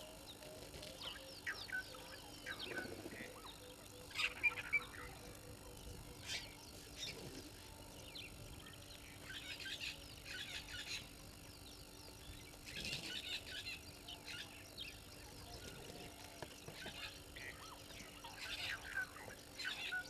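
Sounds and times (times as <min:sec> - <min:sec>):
birds chirping and twittering: 0:00.0 - 0:20.0
faint steady hum: 0:00.0 - 0:20.0.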